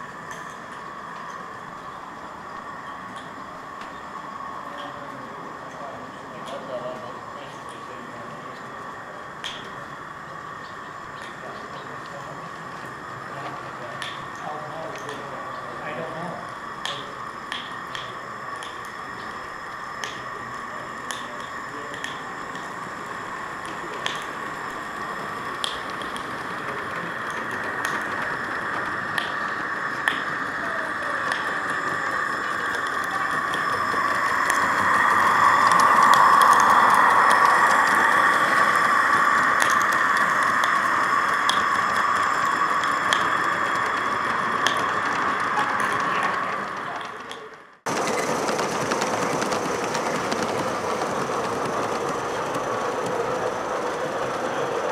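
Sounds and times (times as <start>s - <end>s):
model train motor whine: 0.0s - 54.9s
model train running: 0.0s - 54.9s
wheels clicking over rails: 0.0s - 54.9s.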